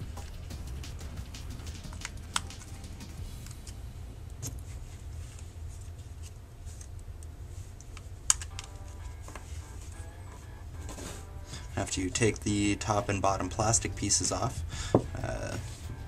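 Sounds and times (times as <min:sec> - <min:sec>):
low hum: 0:00.0 - 0:07.5, 0:08.2 - 0:16.0.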